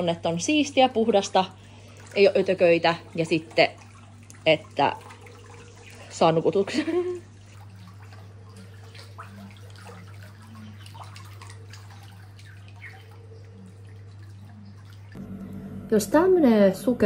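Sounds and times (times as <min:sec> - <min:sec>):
pool water lapping and dripping: 0:00.0 - 0:15.2
small water splashes: 0:00.0 - 0:15.2
low steady hum: 0:00.0 - 0:17.0.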